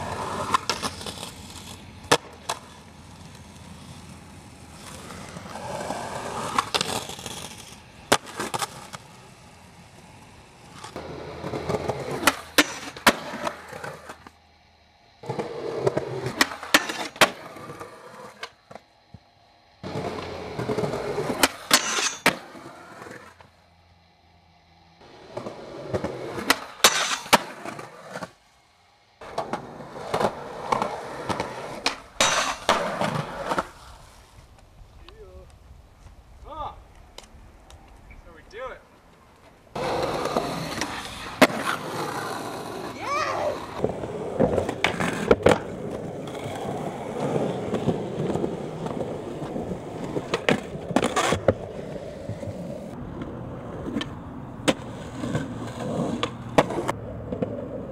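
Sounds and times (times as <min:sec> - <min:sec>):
skateboard popping and landing: 0:00.0 - 0:14.4, 0:15.2 - 0:19.2, 0:19.8 - 0:23.5, 0:25.0 - 0:28.4, 0:29.2 - 0:34.7, 0:39.3 - 0:57.9
skateboard wheels rolling on concrete: 0:00.0 - 0:57.9.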